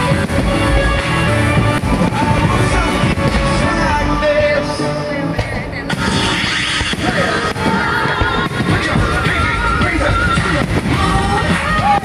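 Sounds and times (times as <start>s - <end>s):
loud music with singing: 0.0s - 12.0s.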